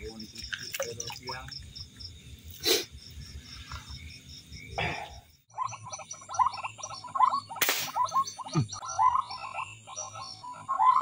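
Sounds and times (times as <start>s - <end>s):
frogs croaking: 0.0s - 11.0s.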